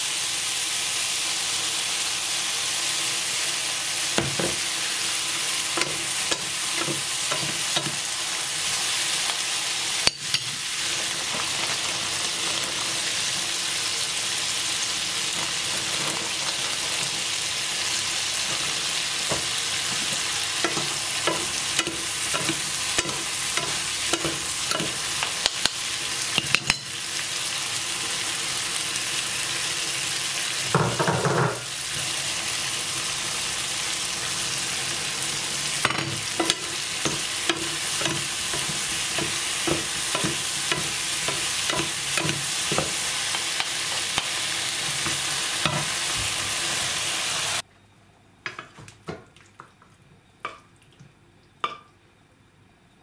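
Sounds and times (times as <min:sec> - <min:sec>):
vegetables sizzling in oil: 0:00.0 - 0:47.7.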